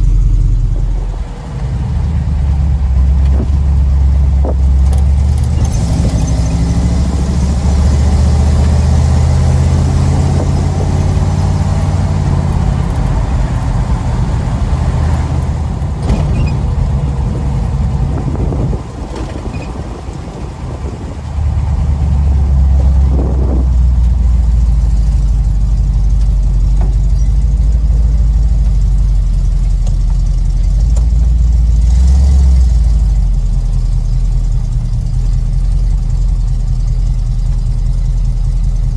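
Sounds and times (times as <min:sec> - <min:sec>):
hot rod engine droning: 0:00.0 - 0:38.9.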